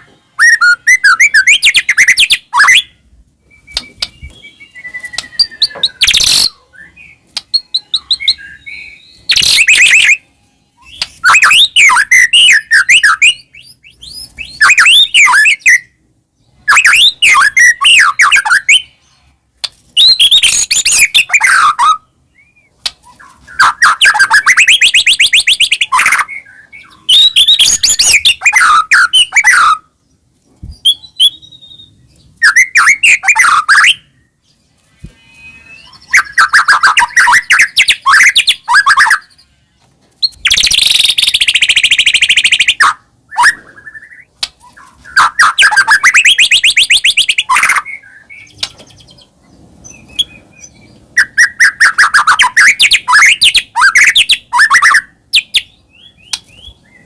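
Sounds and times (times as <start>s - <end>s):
bird singing whistled phrases: 0.2s - 15.9s, 16.7s - 19.0s, 20.0s - 29.9s, 30.8s - 34.4s, 35.1s - 39.5s, 40.2s - 48.6s, 49.9s - 57.0s.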